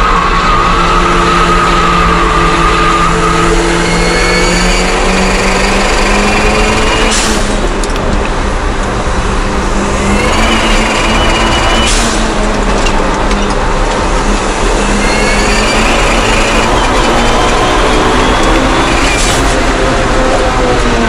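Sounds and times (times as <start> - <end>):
car engine accelerating: 0.0 - 21.0
high gear whine: 0.0 - 21.0.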